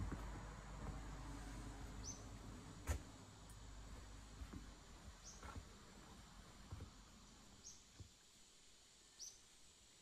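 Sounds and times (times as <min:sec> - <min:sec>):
soft footsteps on wooden deck: 0:00.0 - 0:08.5.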